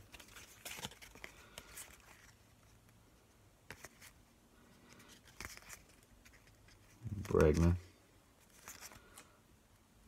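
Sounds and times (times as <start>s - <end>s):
paper cards ticking and sliding: 0.0s - 7.8s, 8.4s - 9.4s.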